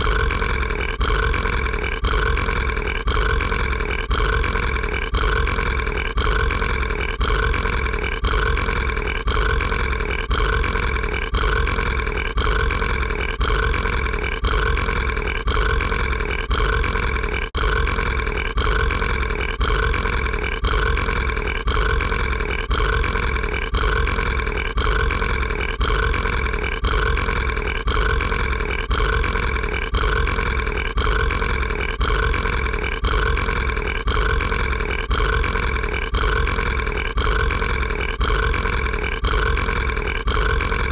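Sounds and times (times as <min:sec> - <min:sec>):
cartoon monster burp looped: 0:00.0 - 0:40.9.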